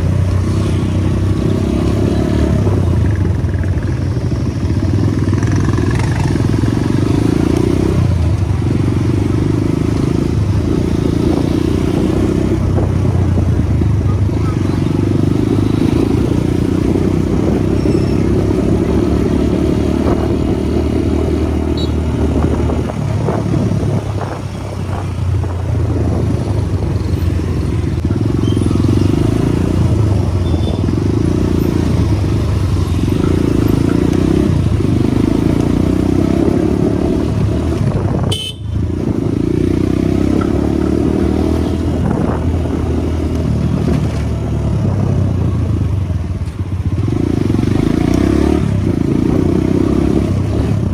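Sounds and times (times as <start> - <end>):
motorcycle engine droning: 0.0 - 50.9
wind noise on microphone: 2.4 - 50.9.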